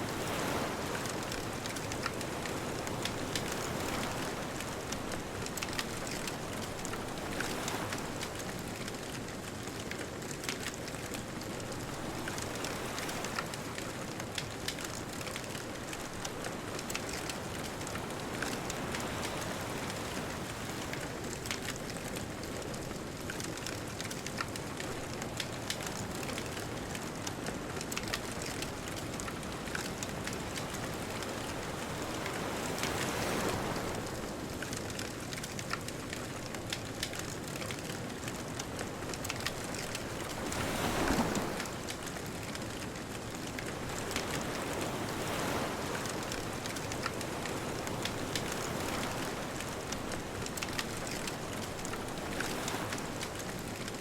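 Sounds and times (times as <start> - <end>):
bonfire crackling and popping: 4.6 - 11.8, 12.4 - 31.0, 34.4 - 54.0
distant ocean waves: 10.6 - 54.0.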